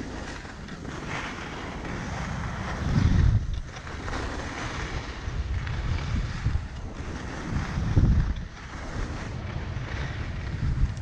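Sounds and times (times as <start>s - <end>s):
skis sliding on packed snow: 0.0s - 11.0s
wind buffeting microphone: 0.0s - 11.0s.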